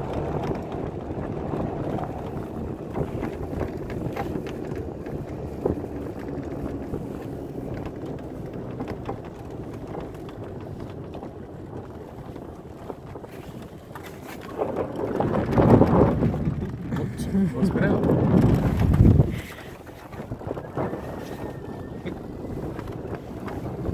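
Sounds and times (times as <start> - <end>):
golf cart rumbling on snow: 0.0 - 23.9
wind buffeting microphone: 0.0 - 23.9.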